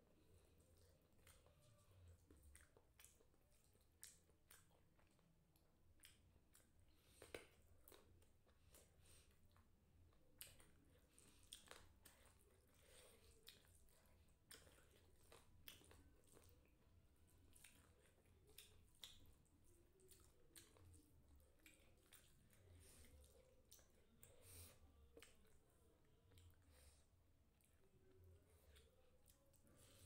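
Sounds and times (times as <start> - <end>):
faint chewing of noodles: 0.0 - 30.0.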